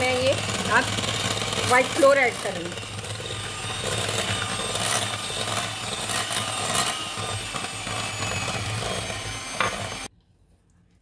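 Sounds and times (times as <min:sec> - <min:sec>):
electric hand mixer humming: 0:00.0 - 0:10.1.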